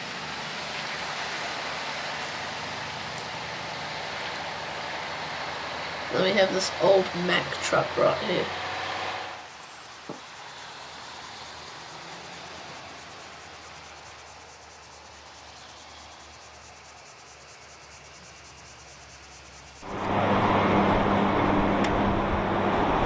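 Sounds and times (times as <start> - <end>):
distant road noise: 0.0 - 23.0.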